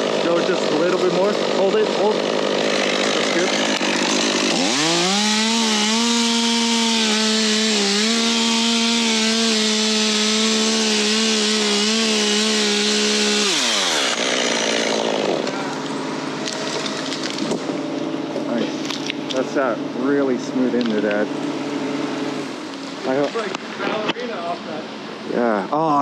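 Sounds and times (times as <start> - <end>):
chainsaw cutting wood: 0.0 - 24.3.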